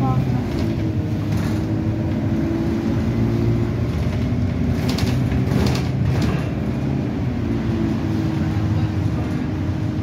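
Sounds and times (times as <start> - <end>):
bus diesel engine droning: 0.0 - 10.0
road noise: 0.0 - 10.0.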